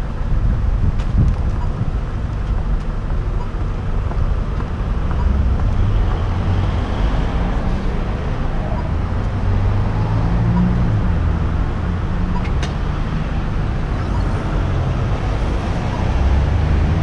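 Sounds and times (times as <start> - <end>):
low engine rumble of traffic: 0.0 - 17.0.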